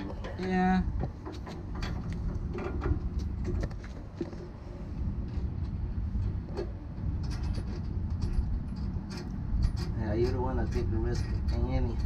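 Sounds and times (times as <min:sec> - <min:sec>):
metallic clicks and knocks: 0:00.0 - 0:04.4, 0:06.2 - 0:12.0
steady low rumble: 0:00.0 - 0:12.0.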